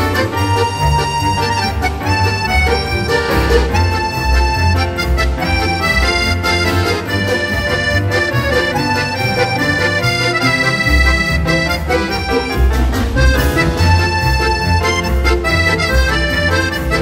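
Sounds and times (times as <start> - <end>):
accordion melody: 0.0 - 17.0
steady bass line: 0.0 - 17.0.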